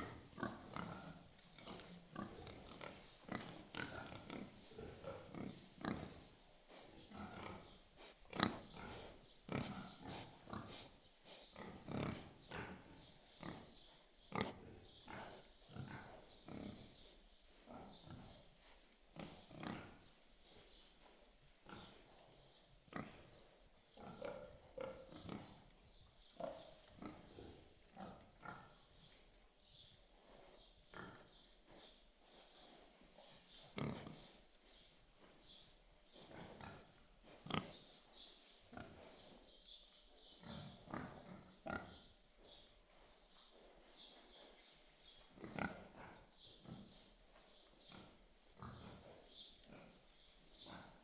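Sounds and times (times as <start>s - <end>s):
pigs grunting and oinking: 0.0s - 20.2s, 21.6s - 29.2s, 30.2s - 34.4s, 35.4s - 38.0s, 38.7s - 39.2s, 40.1s - 42.6s, 45.3s - 51.0s.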